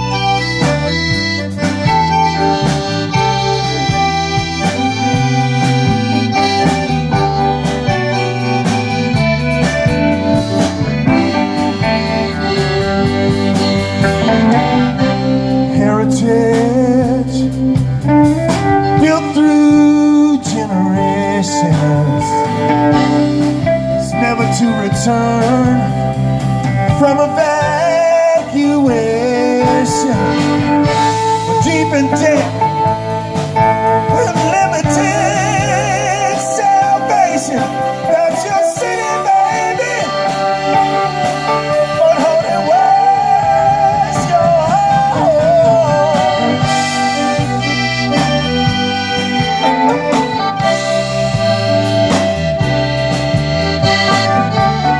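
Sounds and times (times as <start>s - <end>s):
accordion: 0.0s - 54.9s
blues band playing: 0.0s - 54.9s
electric guitar: 0.0s - 54.9s.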